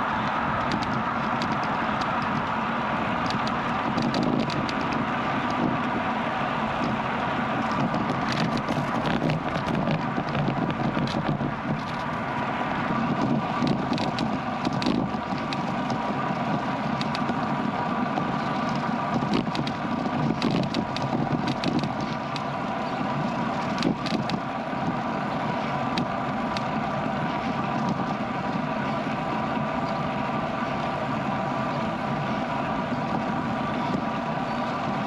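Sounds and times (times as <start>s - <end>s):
tyre and road noise: 0.0s - 35.0s
wind on microphone: 0.0s - 35.0s
small clicks and rattles: 0.1s - 6.0s, 6.8s - 12.5s, 13.1s - 31.0s.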